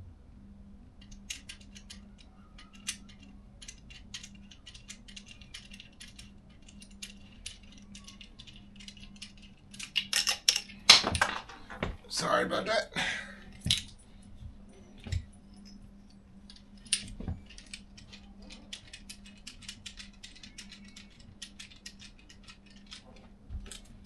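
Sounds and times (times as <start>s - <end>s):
faint steady hum: 0.0s - 24.0s
tools clicking and rattling: 1.0s - 11.8s, 13.5s - 14.0s, 15.1s - 24.0s.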